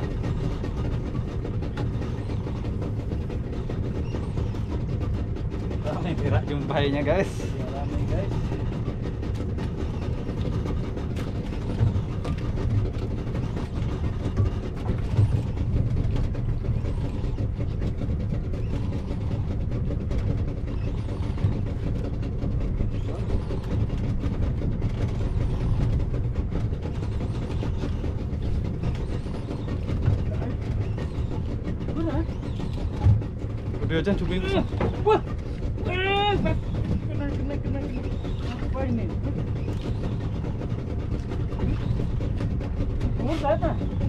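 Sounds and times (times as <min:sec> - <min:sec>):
boat engine idling: 0:00.0 - 0:44.0.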